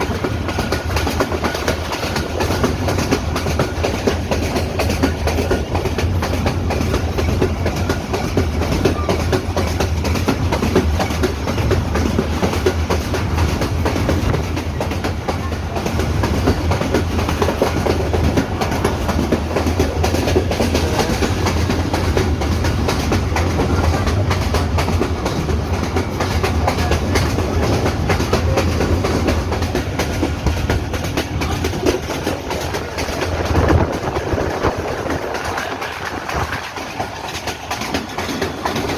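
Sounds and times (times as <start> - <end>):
train rumble: 0.0 - 38.9
wheels clattering over rails: 0.0 - 38.9.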